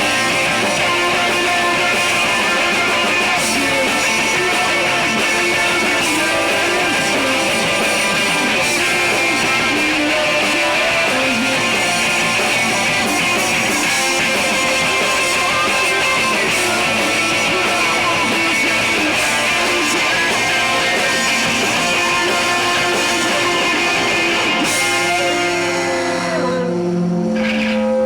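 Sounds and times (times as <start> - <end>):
distorted electric guitars: 0.0 - 28.0
rock band playing: 0.0 - 28.0.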